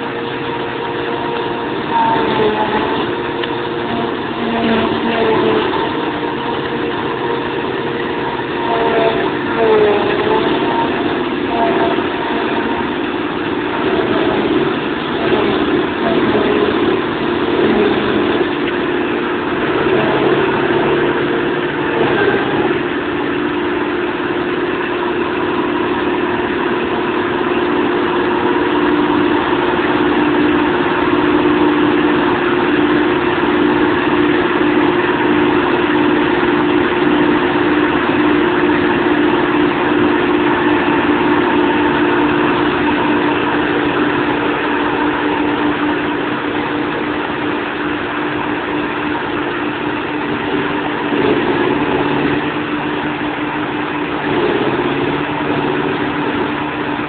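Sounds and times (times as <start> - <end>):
forage harvester running: 0.0 - 57.0
tractor engine running: 0.0 - 57.0.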